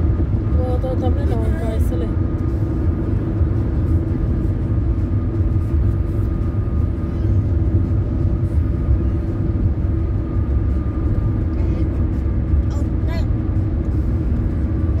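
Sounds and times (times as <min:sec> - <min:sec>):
road and engine noise: 0:00.0 - 0:15.0.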